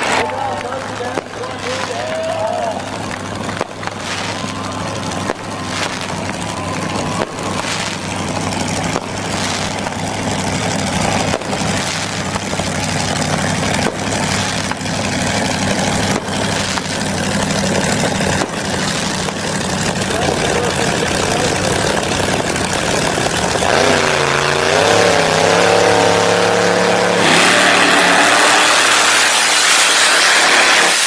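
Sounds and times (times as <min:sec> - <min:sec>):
loud rushing noise: 0:00.0 - 0:21.5, 0:22.1 - 0:31.0
sharp pops: 0:00.0 - 0:31.0
truck engine running: 0:00.0 - 0:31.0.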